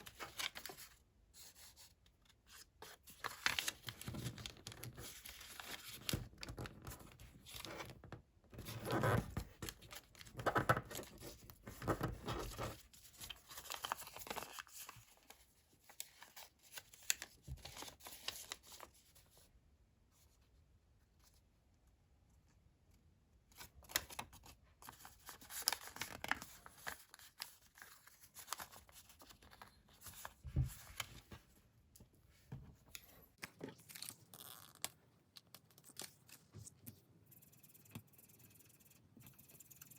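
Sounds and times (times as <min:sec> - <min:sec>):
paper being folded and creased: 0:00.0 - 0:19.4, 0:23.6 - 0:31.6, 0:32.3 - 0:36.8.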